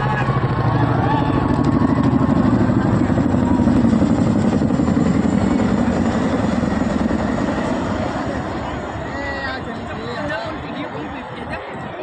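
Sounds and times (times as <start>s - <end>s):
helicopter rotors chopping: 0.0s - 12.0s.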